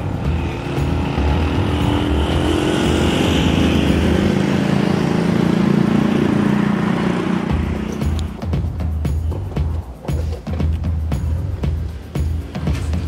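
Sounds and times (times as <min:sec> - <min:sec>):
machinery engine hum: 0:00.0 - 0:13.0.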